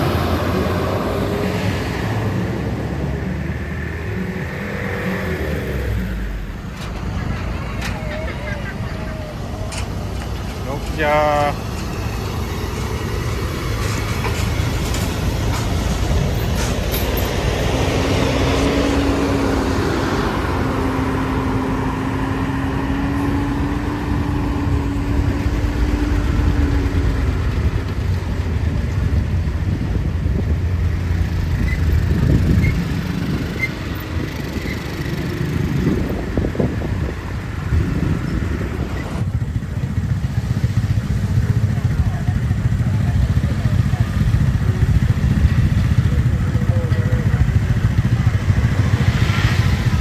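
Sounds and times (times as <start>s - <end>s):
heavy vehicle engine and road rumble: 0.0s - 50.0s.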